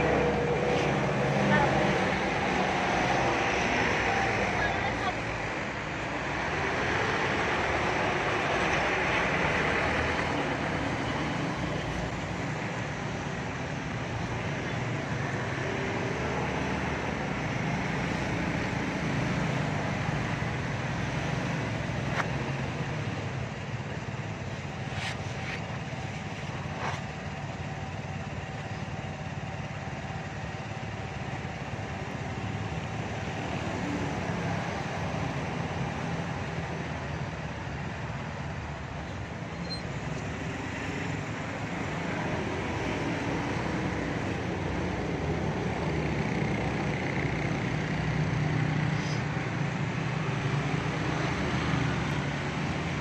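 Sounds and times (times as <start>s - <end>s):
scooters and cars passing: 0.0s - 53.0s.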